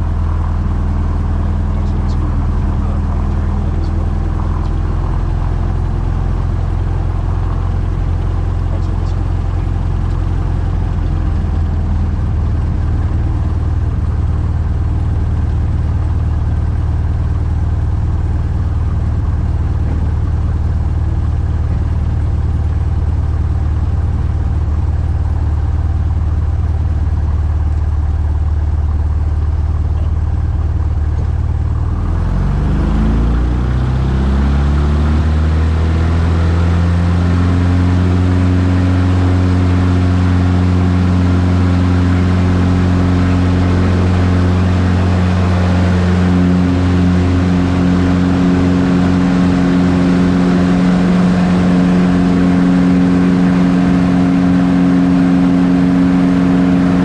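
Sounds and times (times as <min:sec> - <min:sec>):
propeller plane engine: 0:00.0 - 0:57.0.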